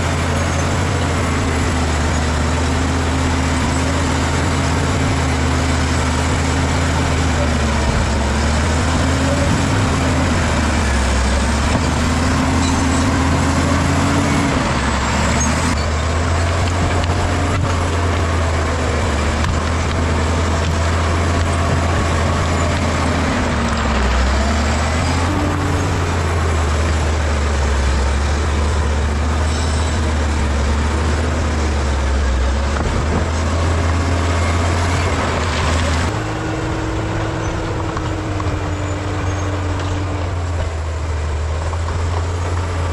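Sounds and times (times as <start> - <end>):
bulldozer diesel engine rumbling: 0.0 - 42.9.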